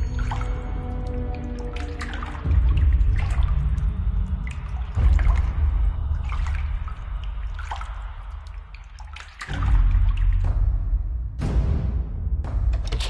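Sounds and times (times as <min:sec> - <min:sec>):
bathwater splashing and dripping: 0:00.0 - 0:11.4.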